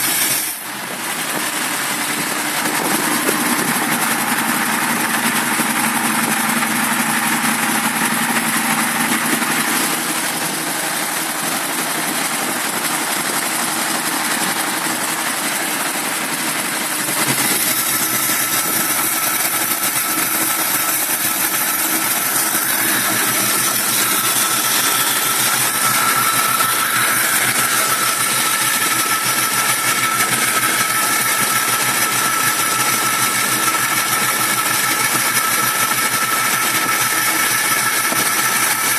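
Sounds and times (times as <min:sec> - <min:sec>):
car engine idling roughly: 0:00.0 - 0:38.9
steady whine: 0:00.0 - 0:38.9.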